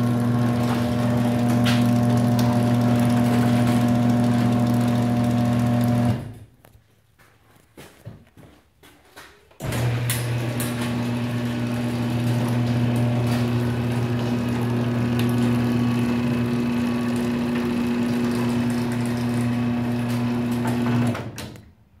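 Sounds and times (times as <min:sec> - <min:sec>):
garage door opener motor hum: 0:00.0 - 0:06.5, 0:09.6 - 0:21.7.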